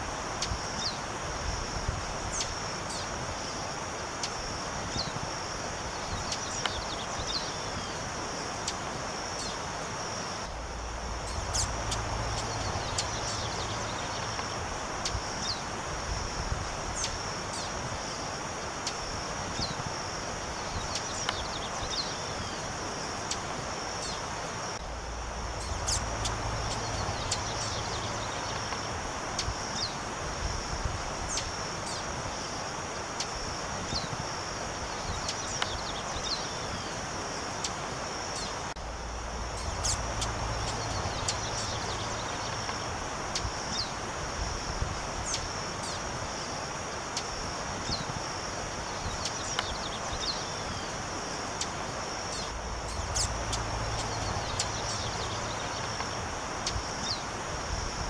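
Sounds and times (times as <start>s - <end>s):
insect drone: 0.0s - 58.0s.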